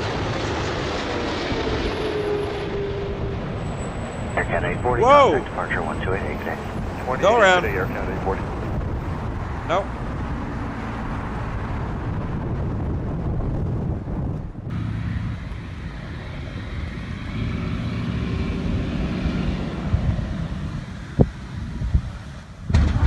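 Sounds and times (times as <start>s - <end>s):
airliner engine rumbling: 0.0s - 23.0s.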